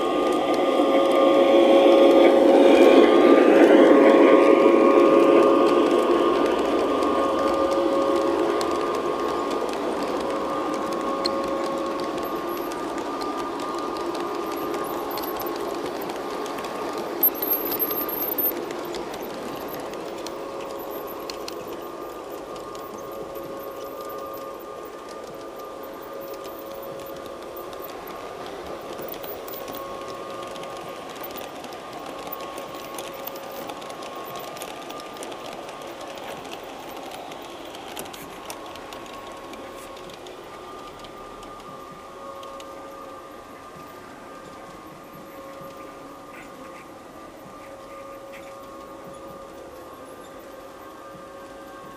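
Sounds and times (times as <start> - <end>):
wheels rolling on rails: 0.0 - 51.9.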